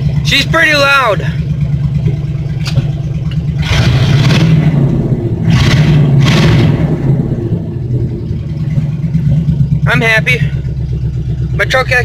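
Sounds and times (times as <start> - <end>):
pickup engine revving: 0.0 - 12.0.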